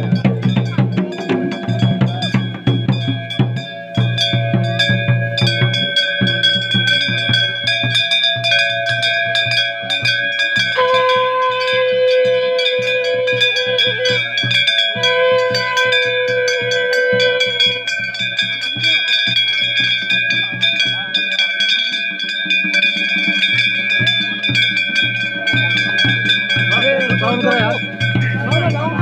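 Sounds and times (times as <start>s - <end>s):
bells ringing: 0.0s - 29.0s
fast steady drum beat: 0.0s - 29.0s.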